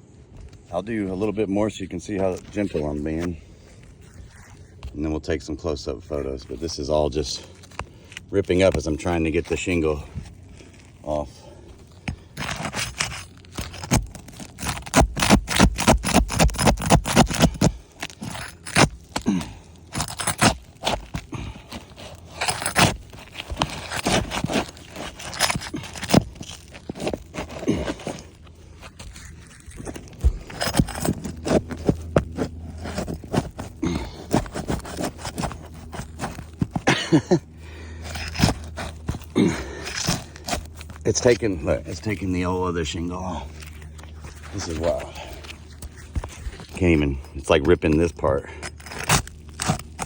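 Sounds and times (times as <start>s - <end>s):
tool scraping roof shingles: 0.5s - 5.4s, 6.2s - 50.0s.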